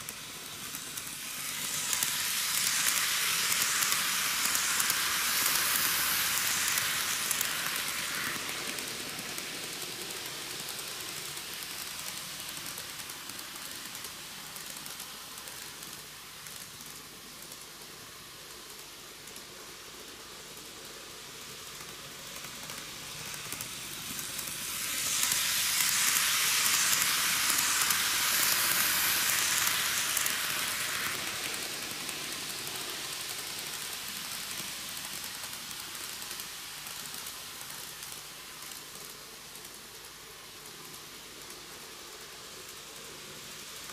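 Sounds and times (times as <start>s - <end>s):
model train wheels and motor hiss: 0.0s - 43.9s.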